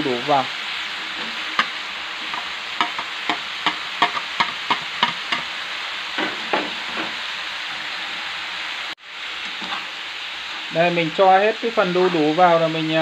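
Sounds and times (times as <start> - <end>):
meat and papaya sizzling in a pan: 0.0 - 13.0.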